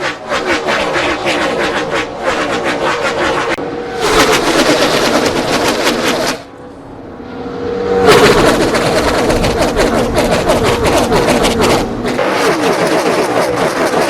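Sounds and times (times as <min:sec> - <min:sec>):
race car engines at high revs: 0:00.0 - 0:14.0.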